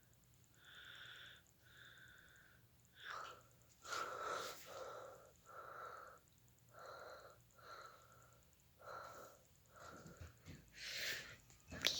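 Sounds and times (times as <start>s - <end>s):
wheezy breathing: 0.5s - 11.5s.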